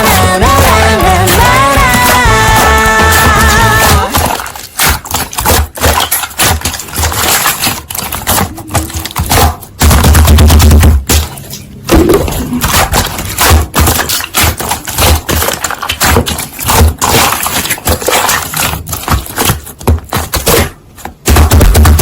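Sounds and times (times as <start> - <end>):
slime squishing with sticky clicks: 0.1 - 22.0.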